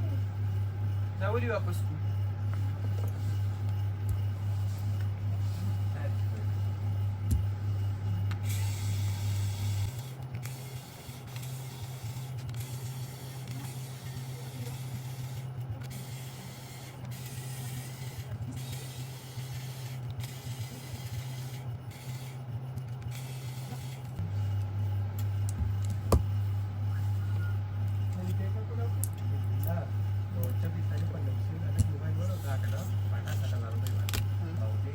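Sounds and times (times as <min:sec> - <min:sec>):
small electric motor humming: 0:00.0 - 0:34.9.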